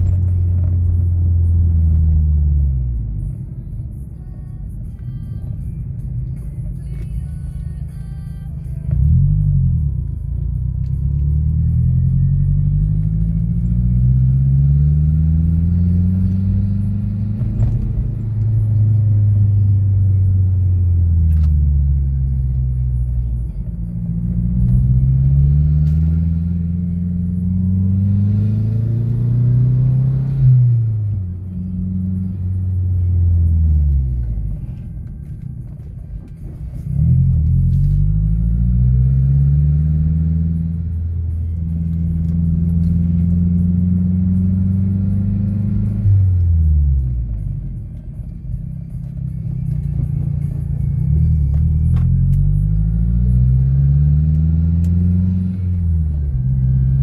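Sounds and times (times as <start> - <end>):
car engine accelerating through gears: 0.0 - 4.0, 8.9 - 57.0.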